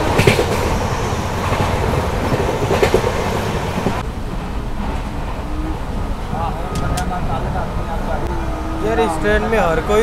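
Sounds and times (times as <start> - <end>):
train rumble and rattle: 0.0 - 10.0.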